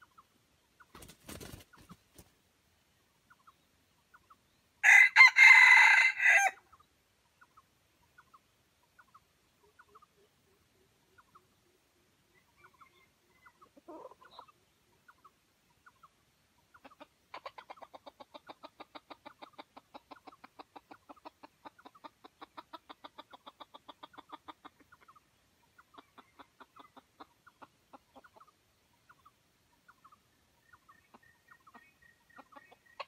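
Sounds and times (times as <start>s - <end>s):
chicken clucking: 0.0s - 2.3s, 3.3s - 5.6s, 6.7s - 33.0s.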